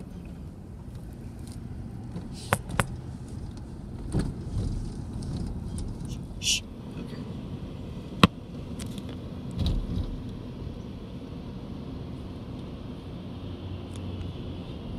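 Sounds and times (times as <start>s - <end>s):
car cabin road noise: 0.0s - 14.9s.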